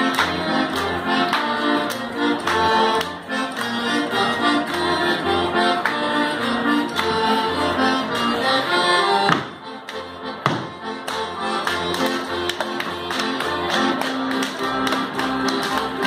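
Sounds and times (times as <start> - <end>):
folk dance music with accordion: 0.0 - 16.0.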